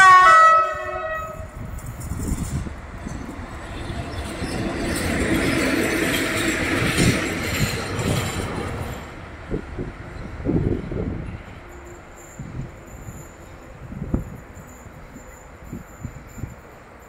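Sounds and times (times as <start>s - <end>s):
locomotive wheels rumbling on rails: 0.0s - 17.0s.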